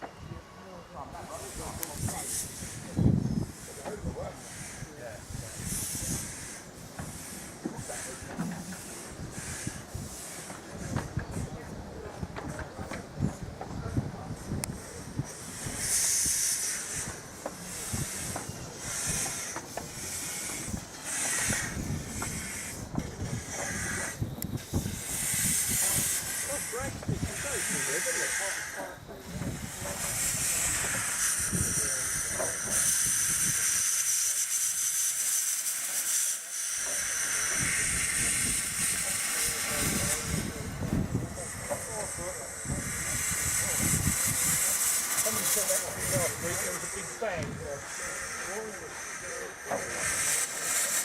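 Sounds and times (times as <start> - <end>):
steam hissing bursts: 0.2 - 51.0.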